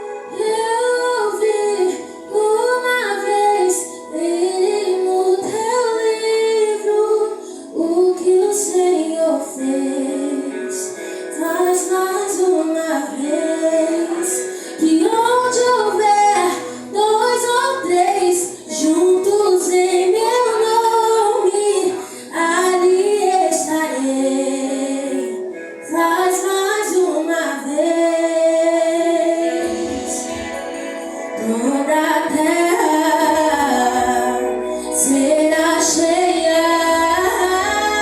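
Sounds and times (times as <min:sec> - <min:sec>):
woman singing: 0:00.0 - 0:38.0
worship music: 0:00.0 - 0:38.0.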